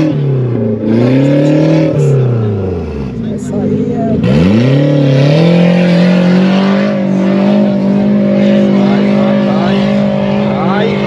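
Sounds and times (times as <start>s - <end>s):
engine revving hard: 0.0s - 3.4s, 4.0s - 11.0s.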